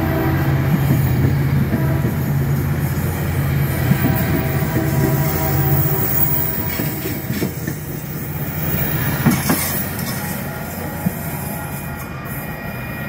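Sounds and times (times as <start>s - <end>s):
train wheels clacking over rails: 0.6s - 12.4s.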